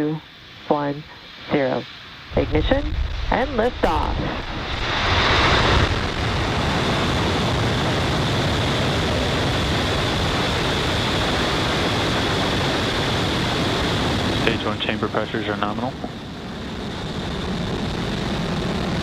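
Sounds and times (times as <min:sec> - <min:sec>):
rocket engines roaring: 0:01.6 - 0:19.0.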